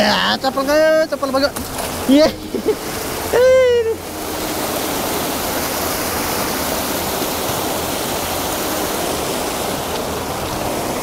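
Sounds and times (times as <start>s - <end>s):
stream rushing over boulders: 0.0s - 11.0s.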